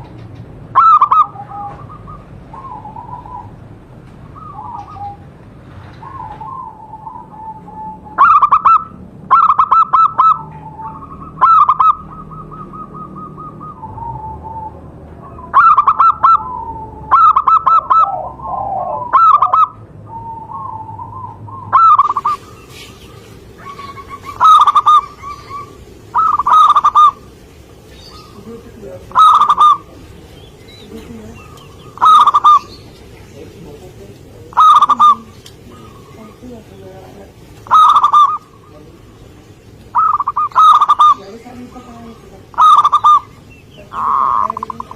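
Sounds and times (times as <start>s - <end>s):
dove cooing: 0.7s - 3.6s, 4.2s - 44.9s.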